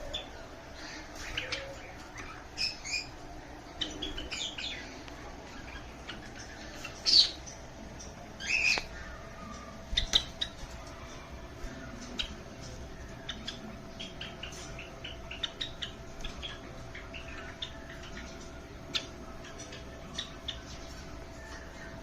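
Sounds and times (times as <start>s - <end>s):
sparrows chirping: 0.0s - 22.0s
steady low hum: 0.0s - 22.0s.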